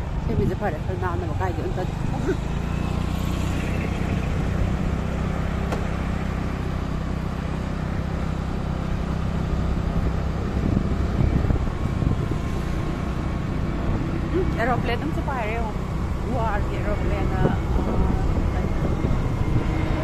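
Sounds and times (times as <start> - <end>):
road noise: 0.0 - 20.0
vehicle engine running: 0.0 - 20.0.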